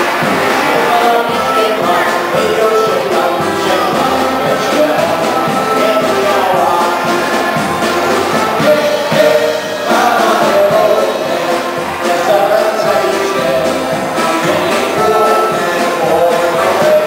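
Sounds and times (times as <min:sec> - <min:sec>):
polka band playing dance tune: 0:00.0 - 0:17.0.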